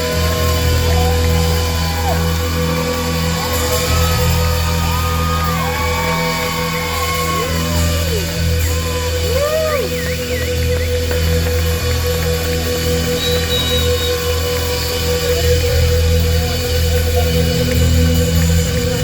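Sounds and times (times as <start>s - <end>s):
audience shouting: 0.0s - 15.2s
live rock band playing: 0.0s - 19.0s.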